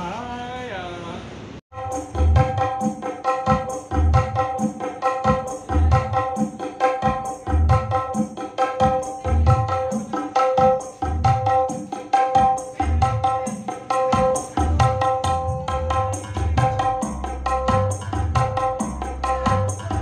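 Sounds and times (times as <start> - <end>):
keyboard music with percussion rhythm: 1.7 - 20.0.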